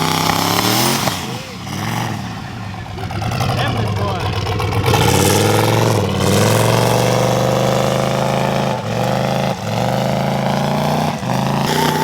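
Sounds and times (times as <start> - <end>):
vehicle engine at high revs: 0.0 - 12.0.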